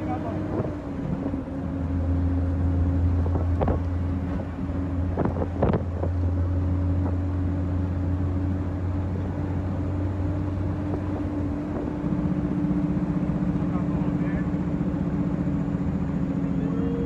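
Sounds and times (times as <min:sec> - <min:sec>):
truck diesel engine drone: 0:00.0 - 0:17.0.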